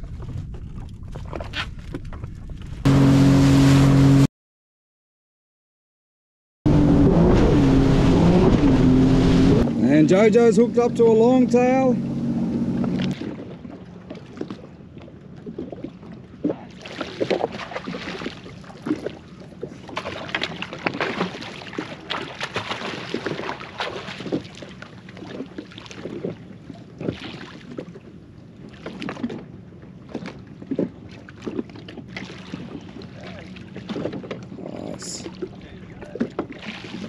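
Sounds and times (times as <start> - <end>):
water splashing against hull: 0.0 - 4.3, 6.7 - 37.0.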